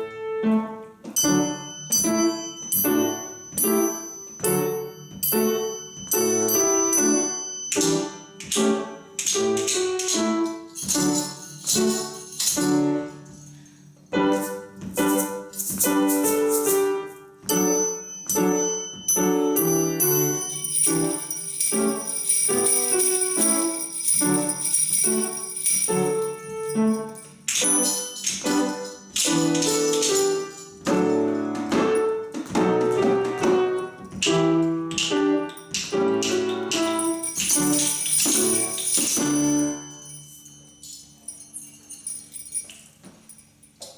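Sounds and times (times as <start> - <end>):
piano-like chords: 0.0 - 42.2
children's percussion orchestra: 1.1 - 13.1, 14.2 - 42.7
shaken bells jingling: 1.2 - 8.7, 9.3 - 32.2, 35.2 - 43.9.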